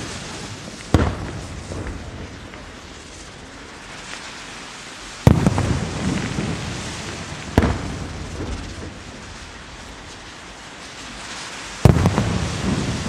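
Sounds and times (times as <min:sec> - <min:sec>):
firework shells bursting: 0:00.0 - 0:04.5, 0:05.1 - 0:13.0.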